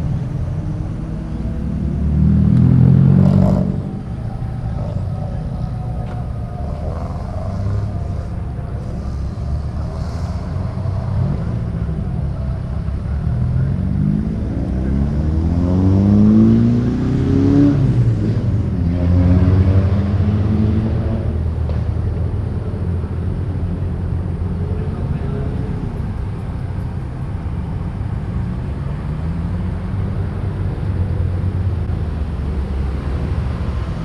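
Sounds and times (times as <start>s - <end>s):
car accelerating: 0.0s - 34.0s
low rumble of running engines: 0.0s - 34.0s.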